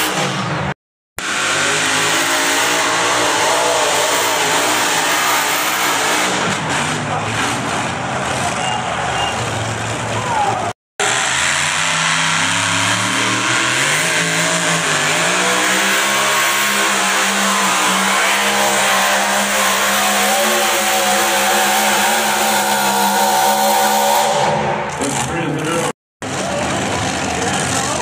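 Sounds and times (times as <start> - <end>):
vehicle engine revving under load: 0.0 - 28.0.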